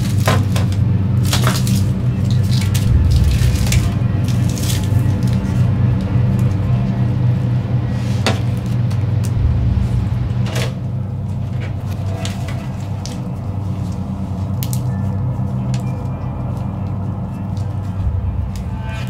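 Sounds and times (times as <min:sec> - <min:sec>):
low droning score: 0:00.0 - 0:19.0.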